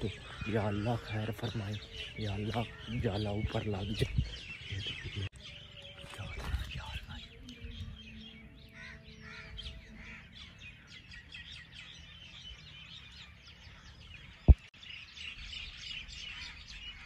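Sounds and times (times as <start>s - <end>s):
many birds chirping: 0.0s - 17.0s.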